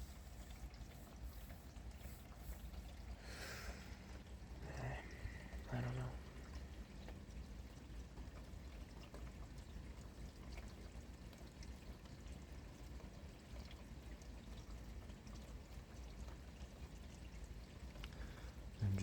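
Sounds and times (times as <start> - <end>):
steady rain falling: 0.0 - 19.0
raindrop ticks: 0.2 - 19.0.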